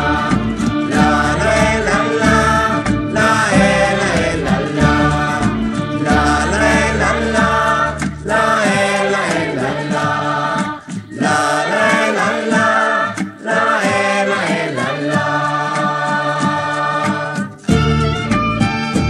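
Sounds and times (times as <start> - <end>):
choir singing with instruments: 0.0 - 19.0.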